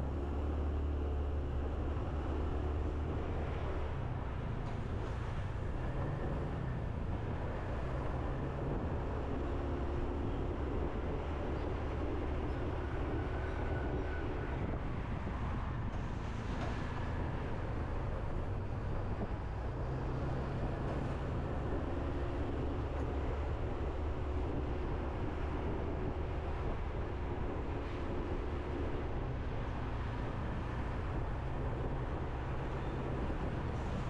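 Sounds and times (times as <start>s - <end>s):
road noise: 0.0s - 34.0s.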